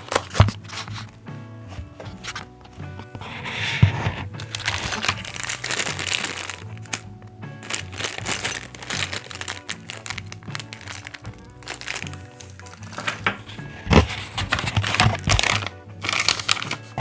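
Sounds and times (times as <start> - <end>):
plastic bag crinkling: 0.0 - 1.1, 4.1 - 17.0
background music: 0.0 - 17.0.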